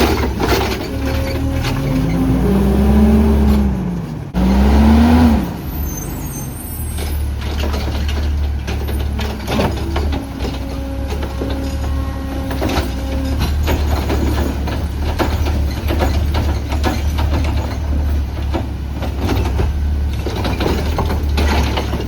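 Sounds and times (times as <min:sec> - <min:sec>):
garbage truck engine revving: 0:00.0 - 0:22.0.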